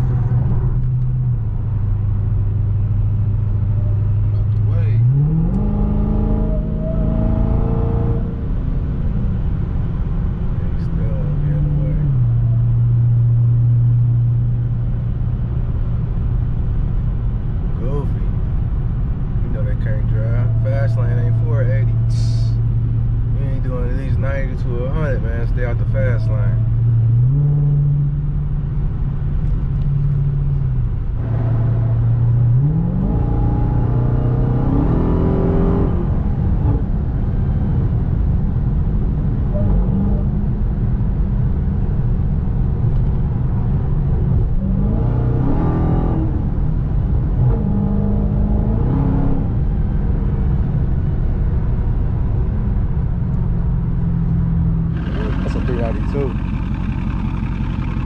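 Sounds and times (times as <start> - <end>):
car engine accelerating: 0.0 - 17.1, 17.8 - 58.0
road noise: 0.0 - 58.0.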